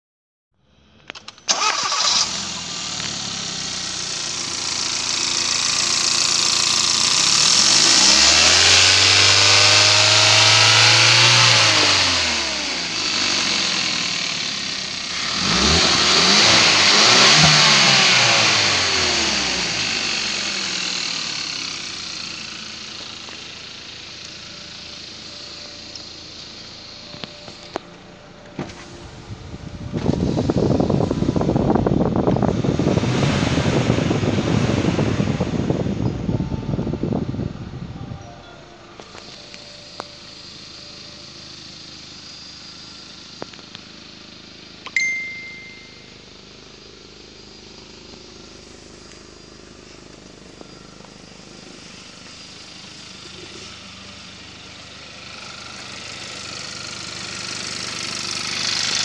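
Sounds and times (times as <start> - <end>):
car engine starting and idling: 0.6 - 59.0
engine revving: 0.8 - 38.0, 39.0 - 59.0.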